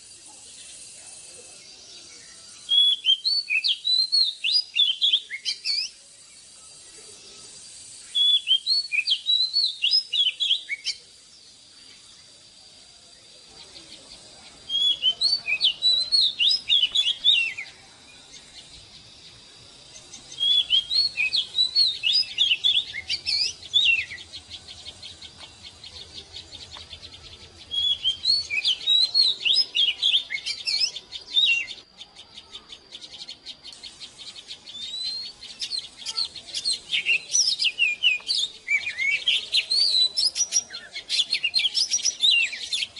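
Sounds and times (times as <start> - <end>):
bird singing whistled notes: 0.0 - 42.9.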